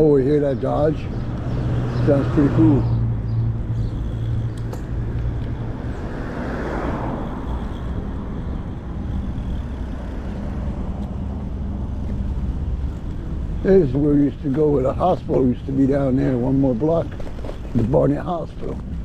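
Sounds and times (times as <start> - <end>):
car engine drone: 0.0 - 19.0
low road rumble: 0.0 - 19.0
vehicle passing: 0.0 - 19.0.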